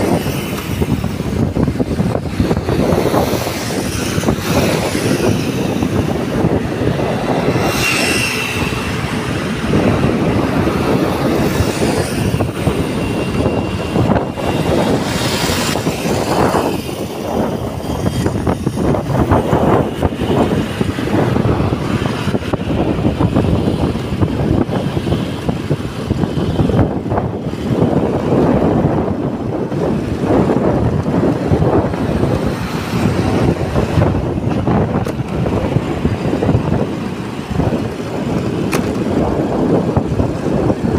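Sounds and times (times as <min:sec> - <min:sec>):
road and engine noise: 0:00.0 - 0:40.9
wind buffeting microphone: 0:00.0 - 0:40.9.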